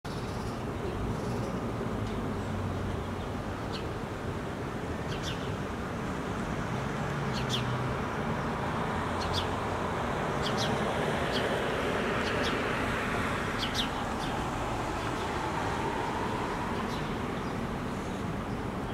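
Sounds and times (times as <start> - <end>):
distant city traffic rumble: 0.1 - 18.9.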